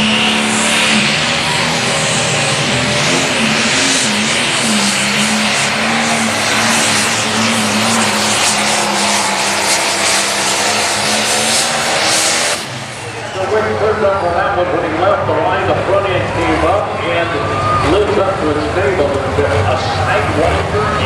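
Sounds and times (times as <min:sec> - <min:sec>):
diesel tractor engine at full throttle: 0:00.0 - 0:21.0.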